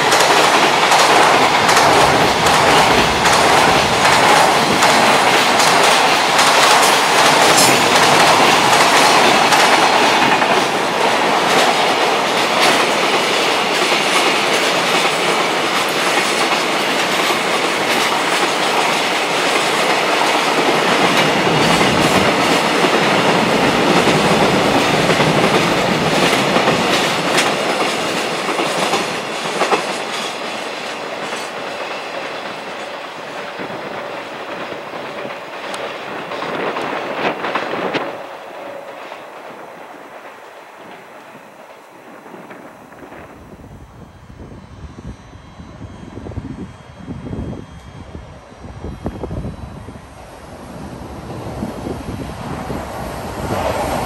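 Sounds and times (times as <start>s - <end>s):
train wheels clattering over rail joints: 0.0s - 43.5s.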